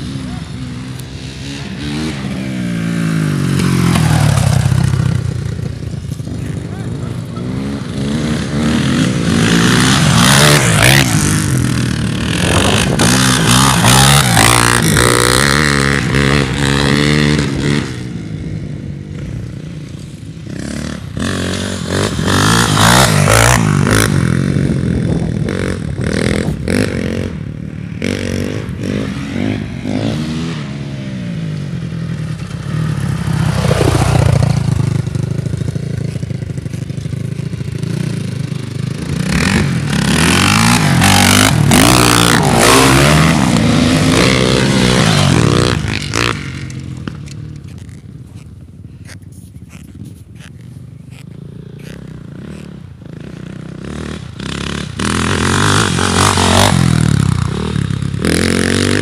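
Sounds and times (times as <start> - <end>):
dirt bike engine revving: 0.0 - 18.5, 20.4 - 48.0, 50.4 - 59.0.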